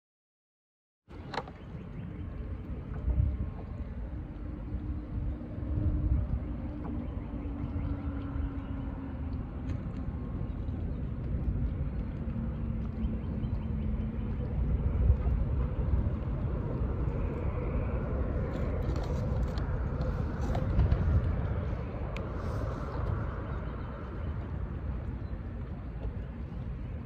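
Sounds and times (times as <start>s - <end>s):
wind buffeting microphone: 1.1s - 27.0s.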